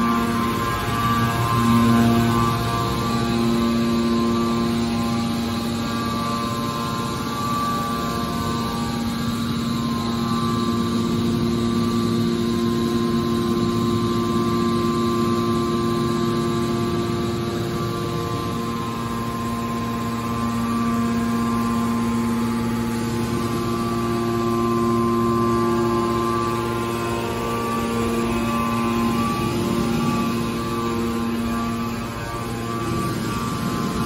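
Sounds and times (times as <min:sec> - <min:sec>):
scrap baler humming and whining: 0:00.0 - 0:34.0.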